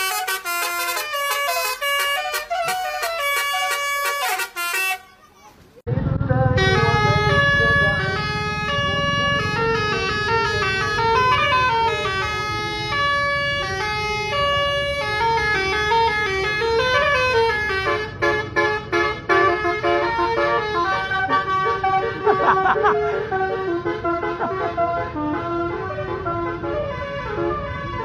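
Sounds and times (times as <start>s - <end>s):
multi-tone bus horn melody: 0.0s - 5.4s, 6.5s - 28.0s.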